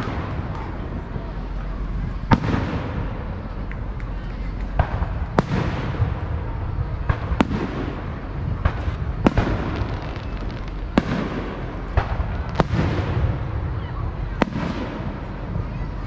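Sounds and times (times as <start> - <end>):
fireworks bangs: 0.0 - 16.0
low background rumble: 0.0 - 16.0.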